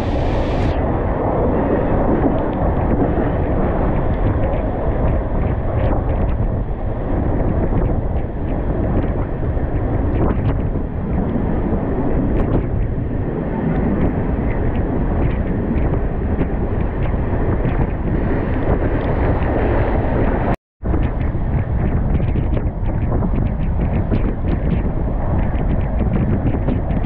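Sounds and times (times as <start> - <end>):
wind rushing on microphone: 0.0 - 27.0.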